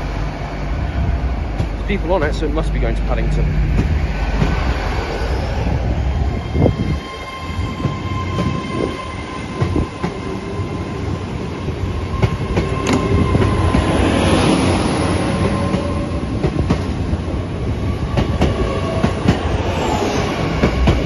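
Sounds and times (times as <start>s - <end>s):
train rumble: 0.0s - 21.0s
train whine: 0.0s - 21.0s.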